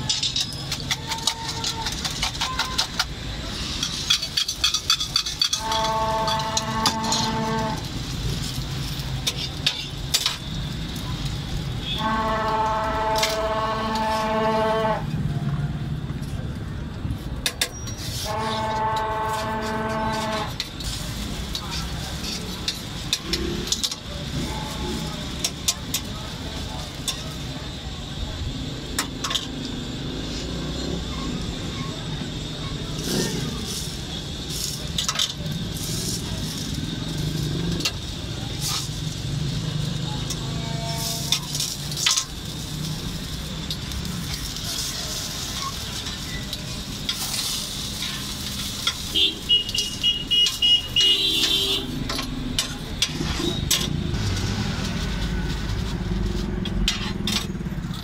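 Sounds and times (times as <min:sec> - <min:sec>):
frying hiss on griddle: 0:00.0 - 0:58.0
traffic noise: 0:00.0 - 0:58.0.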